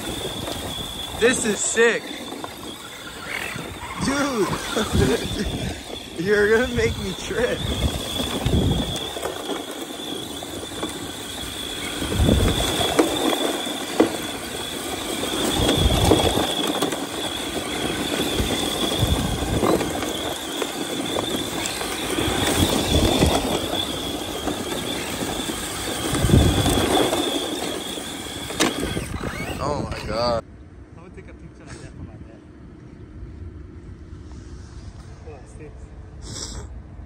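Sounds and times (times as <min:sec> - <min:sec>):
tires rushing through sand: 0:00.0 - 0:30.4
toy truck motor whine: 0:00.0 - 0:30.4.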